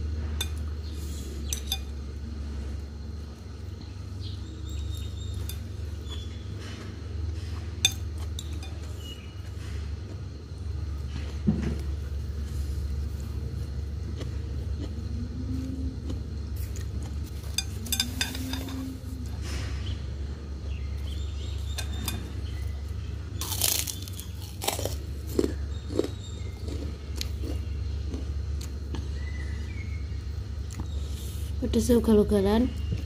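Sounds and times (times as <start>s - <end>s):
crunchy chewing of crisp food: 0.0s - 31.6s, 32.7s - 33.0s
steady low hum: 0.0s - 33.0s.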